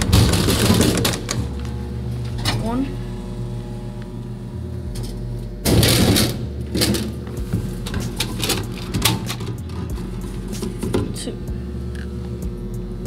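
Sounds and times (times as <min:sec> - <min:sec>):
vending machine low hum: 0:00.0 - 0:13.0.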